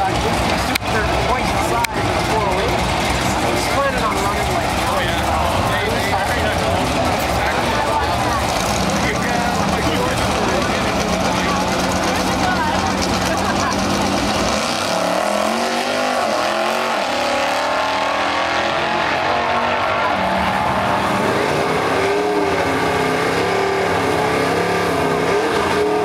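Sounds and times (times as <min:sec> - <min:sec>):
diesel pickup engine accelerating: 0:00.0 - 0:26.0.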